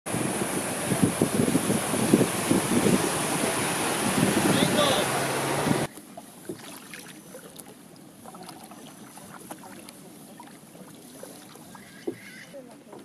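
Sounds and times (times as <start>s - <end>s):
water lapping against canoe hull: 0.1s - 13.0s
water splashing and dripping: 0.1s - 13.0s.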